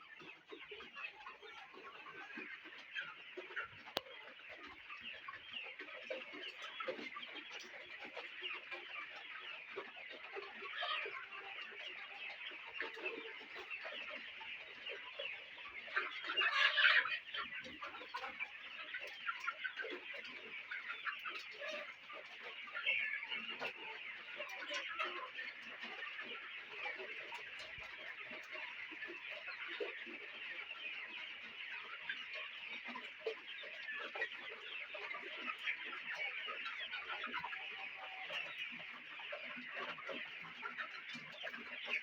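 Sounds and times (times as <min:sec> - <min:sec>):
hens clucking: 0:00.0 - 0:42.0.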